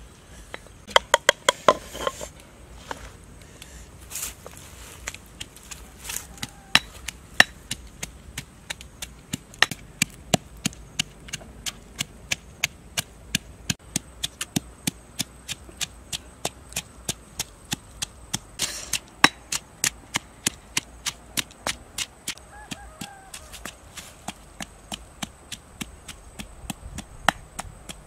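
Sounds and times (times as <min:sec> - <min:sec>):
pestle pounding in stone mortar: 0:05.4 - 0:28.0.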